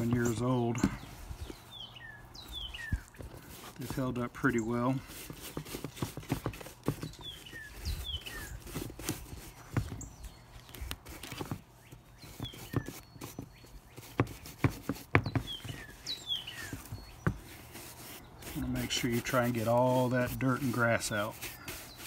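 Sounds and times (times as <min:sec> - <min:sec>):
brush scrubbing leather boot: 0:00.0 - 0:01.5, 0:02.4 - 0:10.1, 0:12.2 - 0:22.0
bird chirping: 0:00.0 - 0:05.1, 0:06.8 - 0:22.0.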